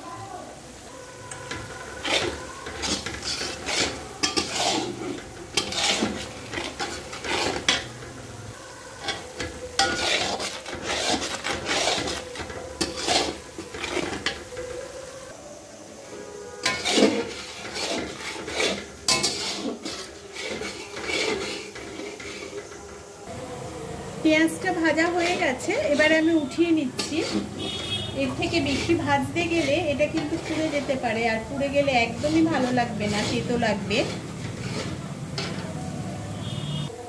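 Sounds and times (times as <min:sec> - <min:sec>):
onions sizzling in oil: 0:00.0 - 0:37.0
spatula scraping metal pan: 0:01.2 - 0:15.0, 0:16.1 - 0:23.1, 0:24.4 - 0:35.8.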